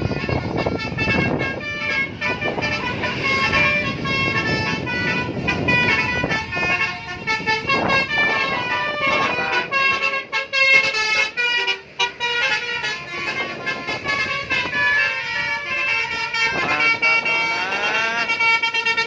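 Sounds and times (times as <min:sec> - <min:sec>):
bus horn melody: 0:00.0 - 0:19.0.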